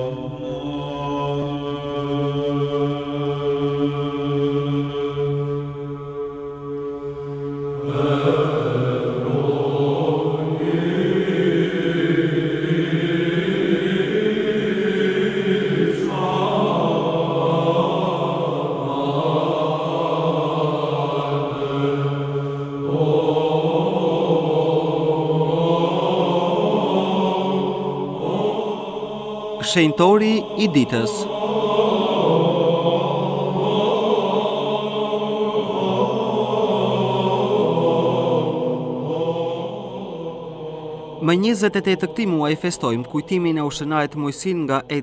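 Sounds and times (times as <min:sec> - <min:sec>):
chant melody in long notes: 0:00.0 - 0:45.0.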